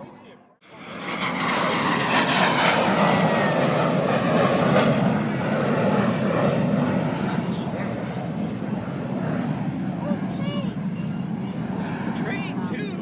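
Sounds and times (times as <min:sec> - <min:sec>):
airplane engine running: 0:00.0 - 0:13.0.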